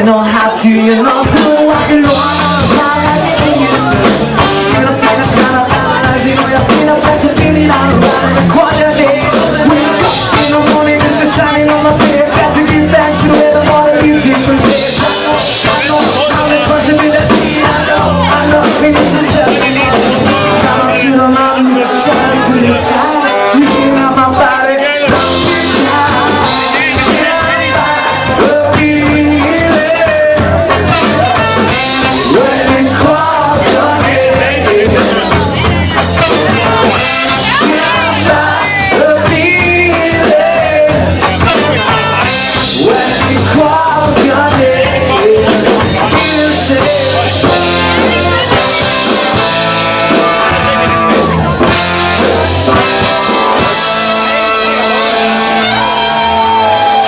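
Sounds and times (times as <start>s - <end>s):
person singing: 0.0s - 57.0s
ska-punk band playing live: 0.0s - 57.0s.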